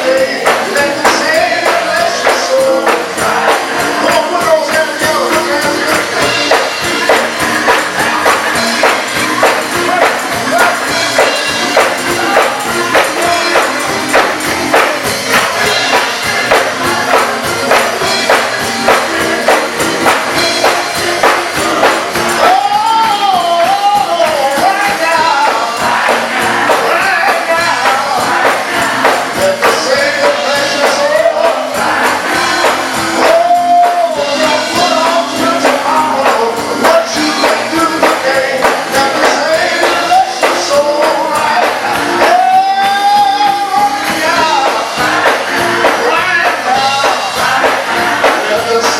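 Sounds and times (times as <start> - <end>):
choir and band playing gospel: 0.0 - 48.9
lead voice singing: 0.0 - 48.9.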